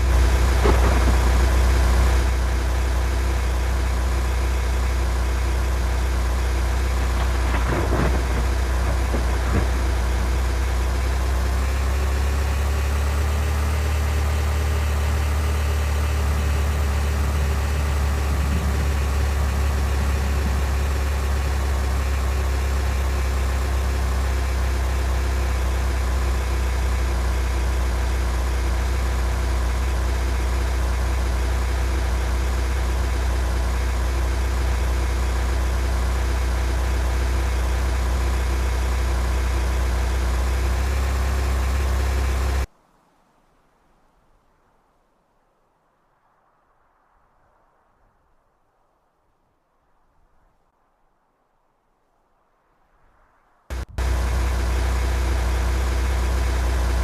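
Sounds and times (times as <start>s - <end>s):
vehicle engine running: 0.0s - 42.7s, 53.7s - 57.0s.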